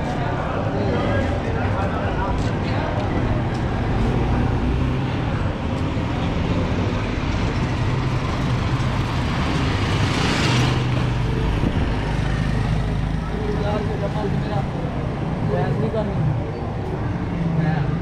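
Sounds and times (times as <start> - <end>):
road traffic engine hum: 0.0 - 18.0.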